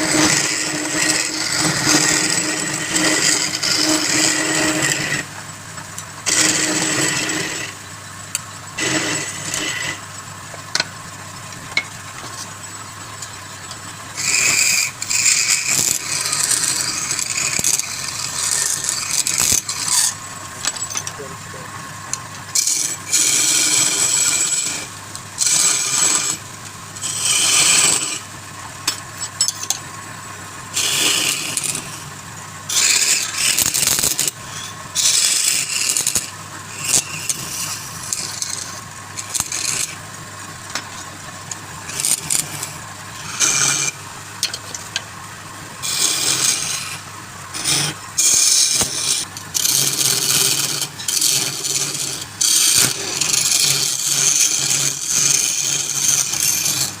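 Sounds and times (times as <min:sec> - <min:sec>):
lathe tool scraping wood: 0:00.0 - 0:57.0
wood lathe humming: 0:00.0 - 0:57.0.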